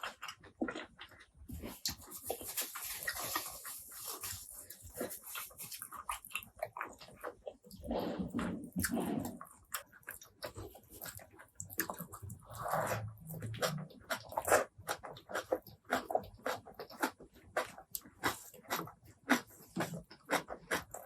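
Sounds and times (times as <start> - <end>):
wet chewing: 0.0 - 21.0.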